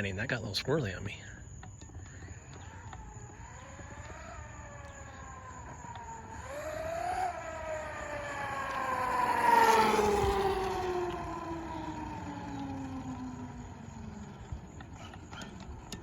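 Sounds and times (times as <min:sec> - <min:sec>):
rc truck motor whining: 0:00.8 - 0:16.0.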